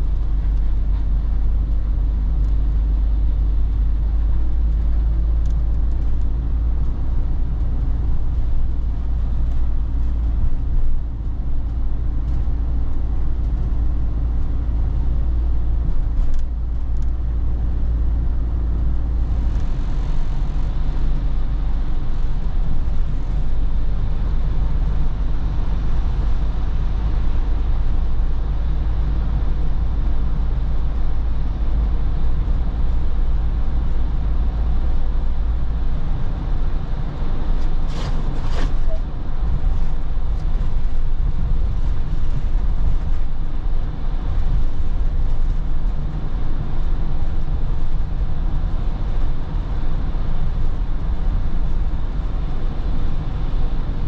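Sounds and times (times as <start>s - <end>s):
engine and road rumble: 0.0s - 54.0s.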